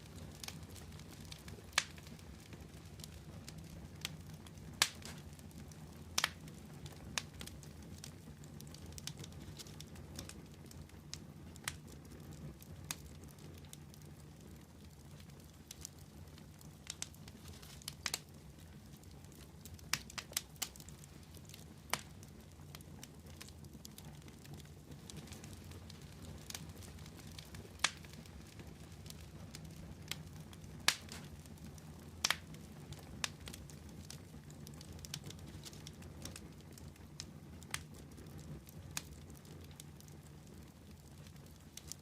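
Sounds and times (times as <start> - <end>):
low background of burning: 0.0 - 42.0
wood fire pops and snaps: 0.0 - 42.0.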